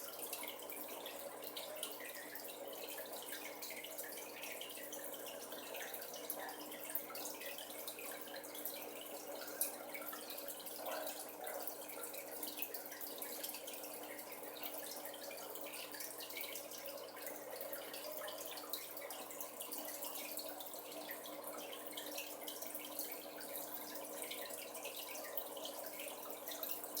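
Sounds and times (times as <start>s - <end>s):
aquarium water running: 0.0s - 27.0s
faint pump hum: 0.0s - 27.0s.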